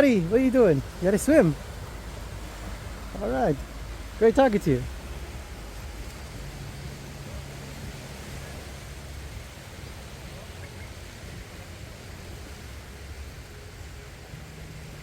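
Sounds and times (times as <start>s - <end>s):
distant surf: 0.0s - 15.0s
wind: 0.0s - 15.0s.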